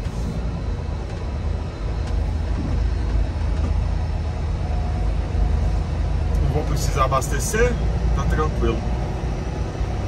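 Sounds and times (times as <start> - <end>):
diesel truck engine drone: 0.0 - 10.0.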